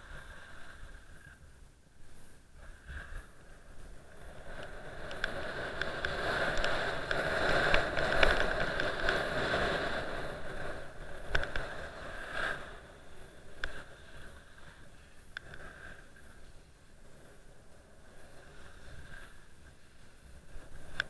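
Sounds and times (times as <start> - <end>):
skis scraping over snow: 2.2 - 21.0.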